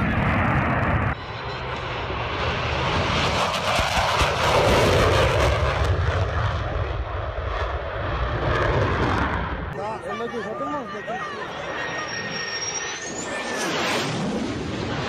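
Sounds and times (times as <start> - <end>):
jet fighter roaring past: 0.0 - 15.0.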